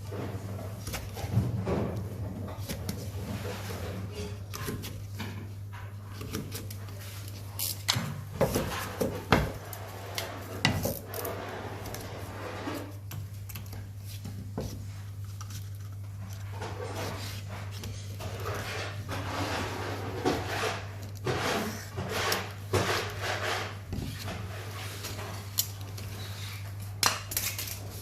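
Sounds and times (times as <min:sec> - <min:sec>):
paper scraping against a wall: 0:00.0 - 0:07.8, 0:08.4 - 0:13.1, 0:13.7 - 0:26.8.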